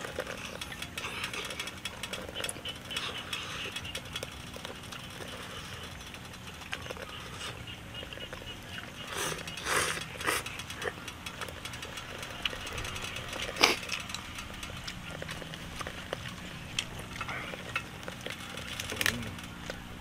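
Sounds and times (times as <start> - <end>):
noodles slurped: 0.0 - 14.0, 14.8 - 20.0
person chewing: 0.0 - 19.8.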